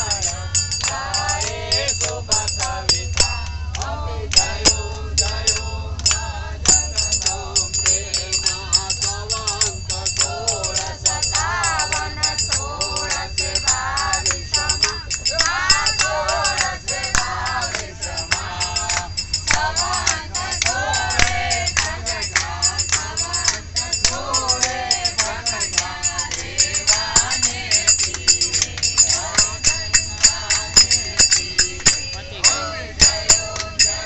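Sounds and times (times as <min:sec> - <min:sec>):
group singing devotional song: 0:00.0 - 0:34.0
rhythmic handclapping: 0:00.0 - 0:34.0
train rumble: 0:00.0 - 0:34.0.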